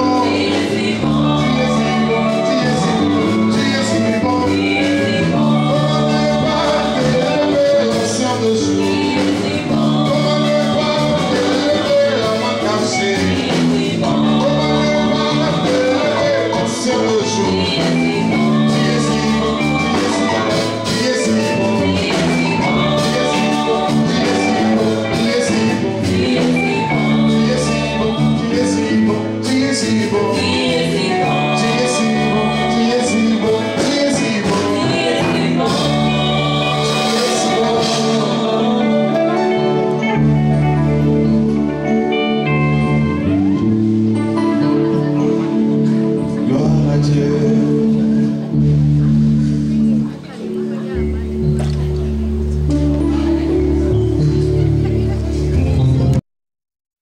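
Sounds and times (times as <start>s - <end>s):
song with instrumental accompaniment: 0.0s - 56.2s.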